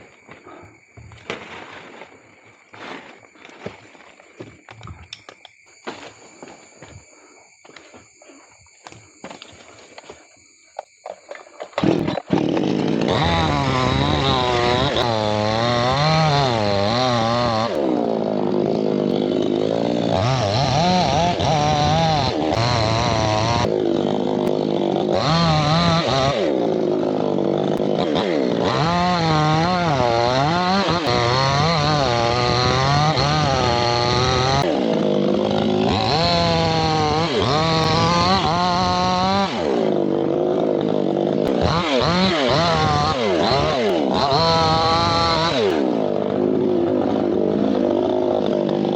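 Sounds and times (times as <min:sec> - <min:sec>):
chainsaw cutting wood: 0:00.5 - 0:02.1, 0:10.8 - 0:48.9.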